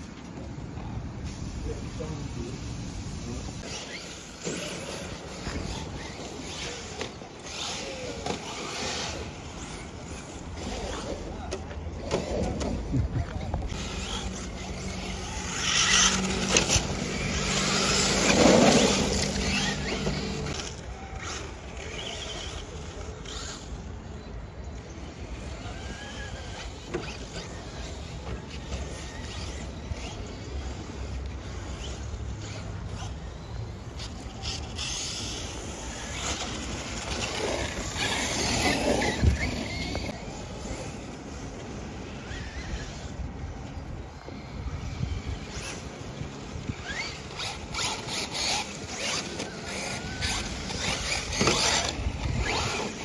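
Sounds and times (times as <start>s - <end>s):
radio-controlled truck driving past: 1.1s - 53.0s
electric motors whining: 1.2s - 53.0s.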